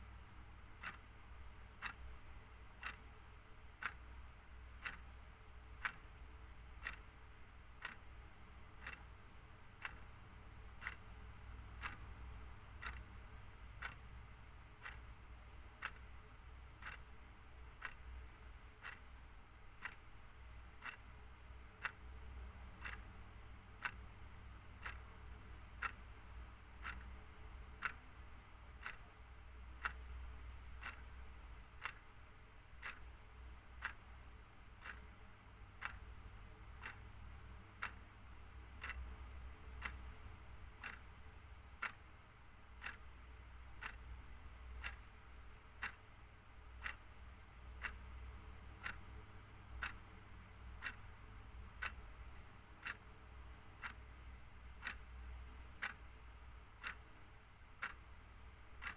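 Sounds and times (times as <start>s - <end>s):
clock ticking: 0.0s - 58.9s
faint low hum: 0.0s - 58.9s.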